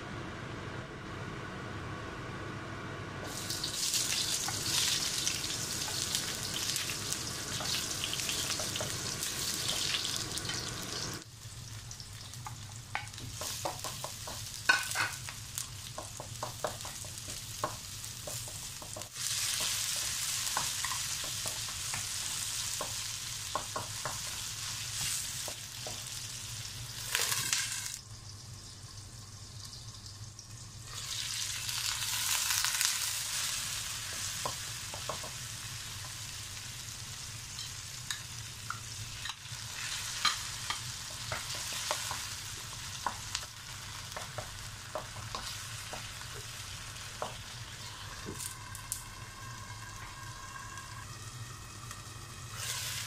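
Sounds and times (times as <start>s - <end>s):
onion and garlic sizzling in oil: 3.2s - 53.0s.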